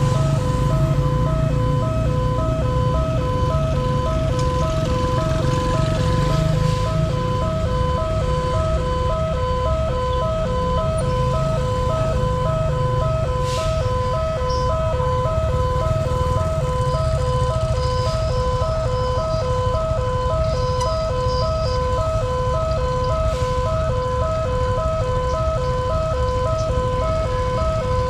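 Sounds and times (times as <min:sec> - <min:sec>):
two-tone level crossing siren: 0:00.0 - 0:28.0.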